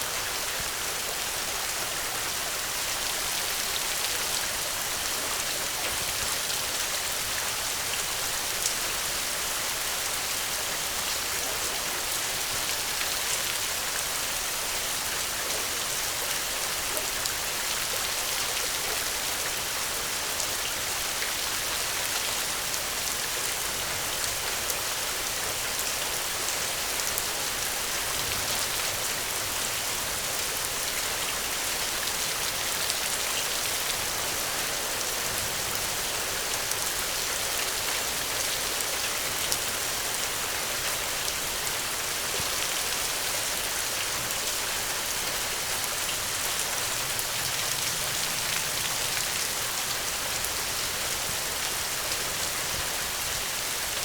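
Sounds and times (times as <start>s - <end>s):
rain hissing and pattering: 0.0s - 54.0s.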